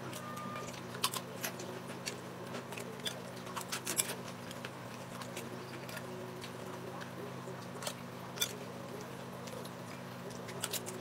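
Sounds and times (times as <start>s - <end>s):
man chewing crunchy food: 0.0s - 11.0s.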